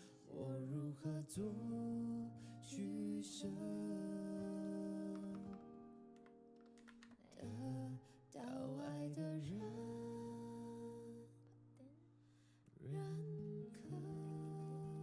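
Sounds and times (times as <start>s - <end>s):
pop ballad with guitar: 0.0s - 11.9s, 12.8s - 15.0s.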